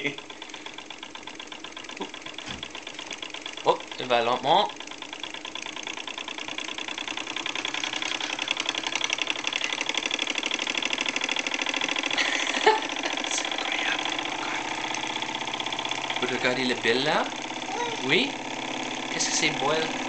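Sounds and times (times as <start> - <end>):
toy steam engine exhaust beating: 0.0 - 20.0.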